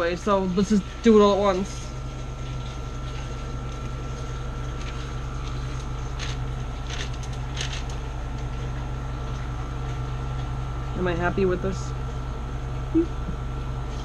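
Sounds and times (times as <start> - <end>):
appliance hum with high tone: 0.0 - 14.0.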